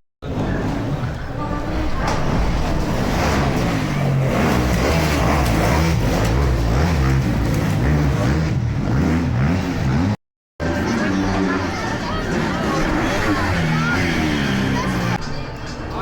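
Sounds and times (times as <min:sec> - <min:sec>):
motorcycle engine revving: 0:02.1 - 0:15.2.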